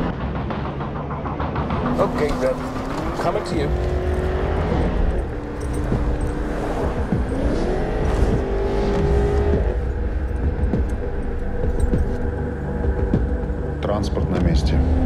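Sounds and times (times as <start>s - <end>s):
car engine: 0.0s - 13.8s
road rumble: 0.0s - 15.0s.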